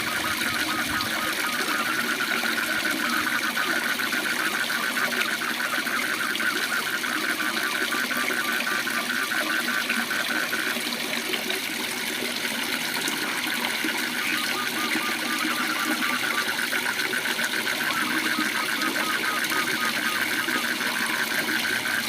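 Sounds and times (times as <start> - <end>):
frog calling in pulses: 0.0 - 10.9, 13.0 - 22.0.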